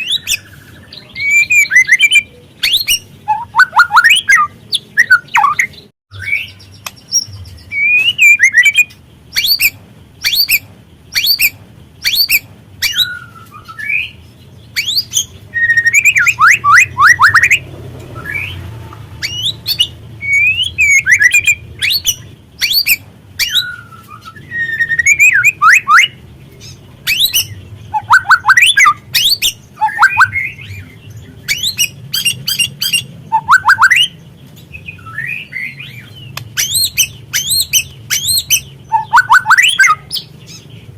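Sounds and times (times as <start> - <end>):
bird singing whistled notes: 0.0 - 18.6, 19.2 - 40.7.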